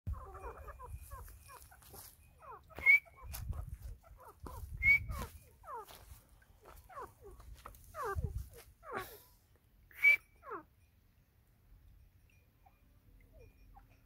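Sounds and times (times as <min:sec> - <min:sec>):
bird chirping: 0:00.1 - 0:14.0.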